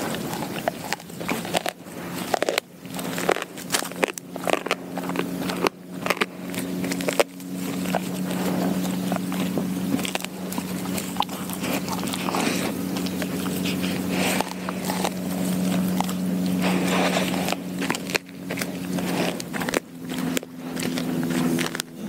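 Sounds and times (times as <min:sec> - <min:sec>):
dog crunching bones: 0:00.0 - 0:22.0
low hum: 0:00.0 - 0:22.0.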